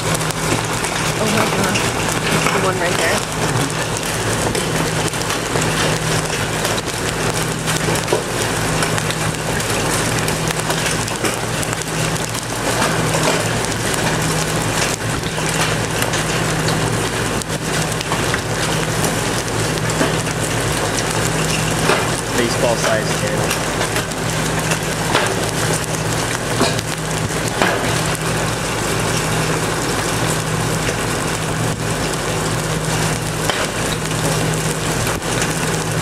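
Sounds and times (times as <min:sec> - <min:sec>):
hail and rain falling: 0:00.0 - 0:36.0
hailstones clicking and knocking: 0:00.0 - 0:36.0
low hum: 0:00.0 - 0:36.0.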